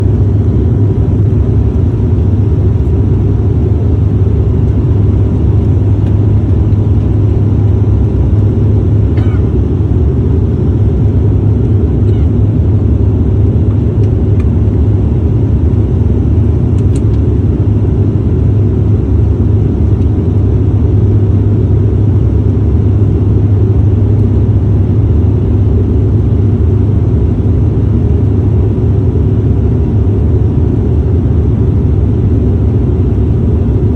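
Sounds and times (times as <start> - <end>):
aircraft engine and airflow rumble: 0.0 - 33.9
faint steady whine: 0.0 - 33.9.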